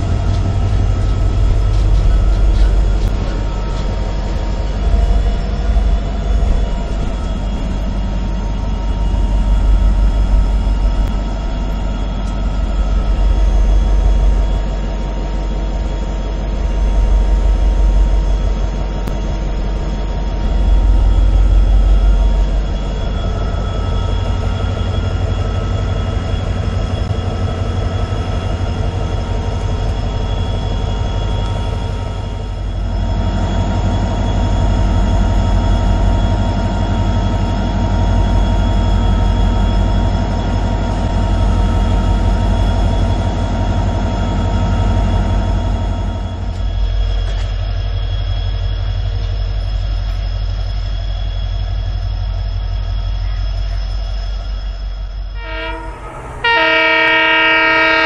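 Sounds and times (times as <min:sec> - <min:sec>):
locomotive engine droning: 0:00.0 - 0:58.0.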